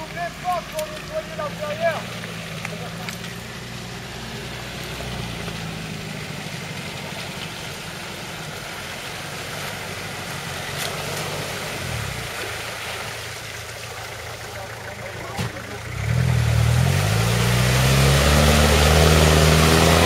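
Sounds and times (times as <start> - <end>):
off-road vehicle engine at low revs: 0.0 - 20.0.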